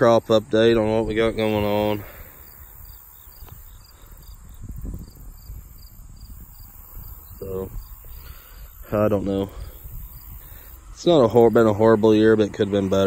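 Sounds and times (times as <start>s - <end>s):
insects chirping: 0.0s - 13.0s
steady high hiss: 0.0s - 13.0s
wind rumbling on microphone: 0.4s - 13.0s.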